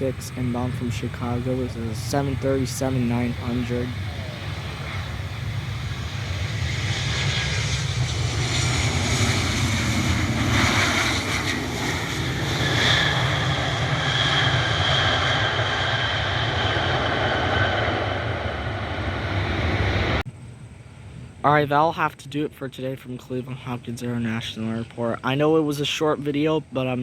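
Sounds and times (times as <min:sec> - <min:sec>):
high jet fan whine: 0:00.0 - 0:21.8
jet engines rumbling: 0:00.0 - 0:27.0.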